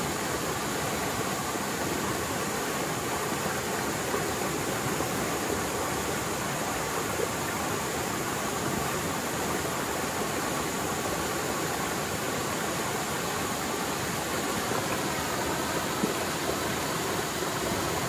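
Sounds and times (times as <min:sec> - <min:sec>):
mountain stream rushing: 0:00.0 - 0:18.0.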